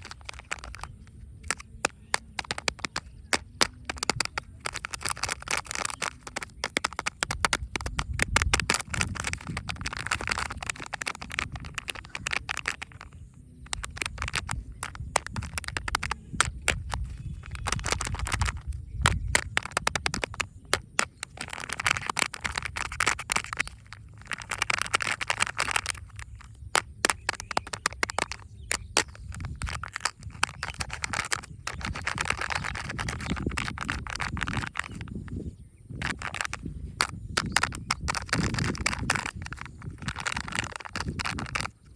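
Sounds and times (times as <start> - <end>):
plastic wrappers crinkling: 0.0 - 35.3, 36.0 - 41.9
packaging clicks and taps: 0.0 - 41.9.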